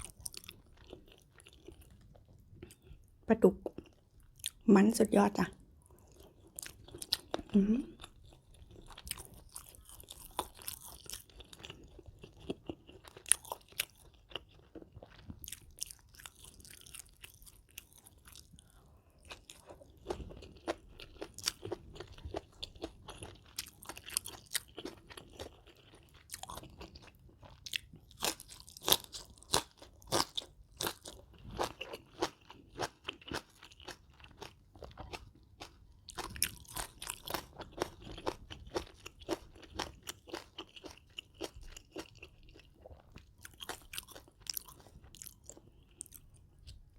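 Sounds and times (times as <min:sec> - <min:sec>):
chewing crisp food: 0:00.0 - 0:04.7, 0:05.6 - 0:46.9.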